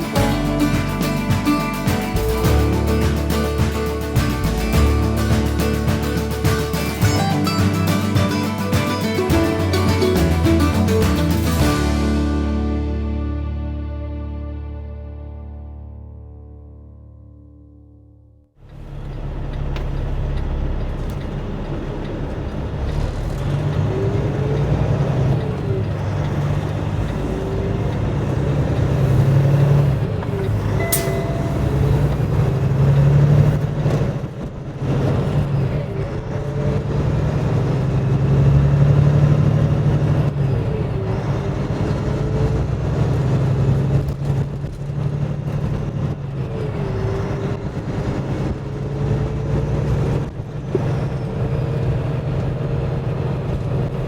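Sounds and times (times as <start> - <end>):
truck diesel engine running: 0.0 - 14.8, 18.6 - 54.0.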